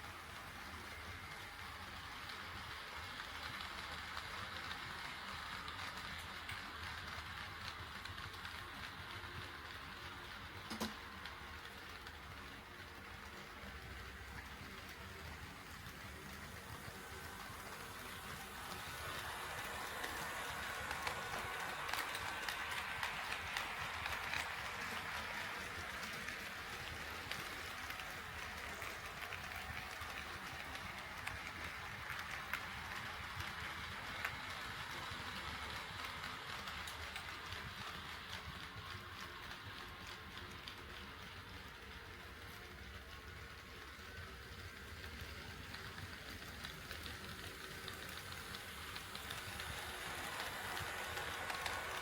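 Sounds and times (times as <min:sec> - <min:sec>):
model train running: 0:00.0 - 0:52.0.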